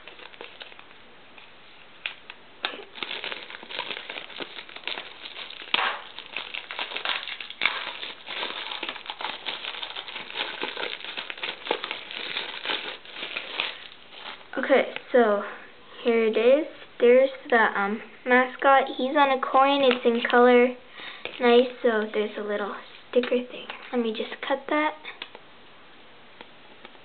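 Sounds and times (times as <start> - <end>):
plastic shrink wrap crinkling: 0.0 - 15.5, 18.5 - 25.4.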